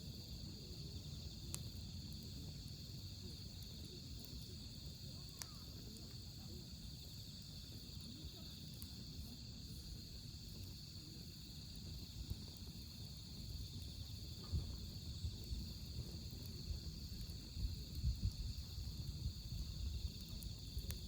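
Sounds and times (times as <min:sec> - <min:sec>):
insects trilling: 0:00.0 - 0:21.0
wood fire crackling and popping: 0:00.0 - 0:21.0.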